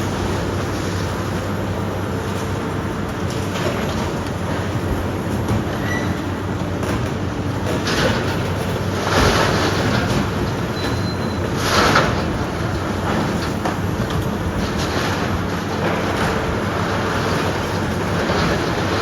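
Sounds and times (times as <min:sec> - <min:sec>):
diesel engine rumble: 0:00.0 - 0:19.0.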